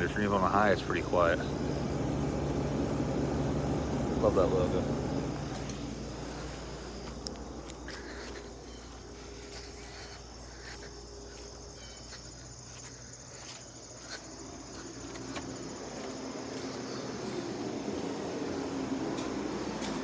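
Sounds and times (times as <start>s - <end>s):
insects chirring: 0.0s - 20.0s
low hum: 0.9s - 12.2s, 13.0s - 20.0s.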